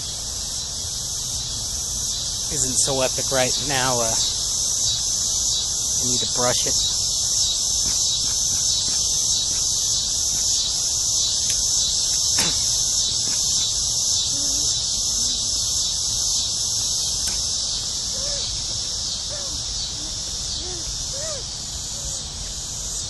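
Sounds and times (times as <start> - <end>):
insects singing pulsing drone: 0.0 - 23.0.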